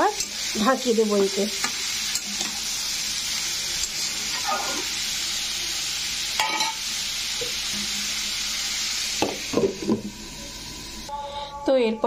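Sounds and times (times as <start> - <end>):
vegetables sizzling in hot oil: 0.0 - 11.1.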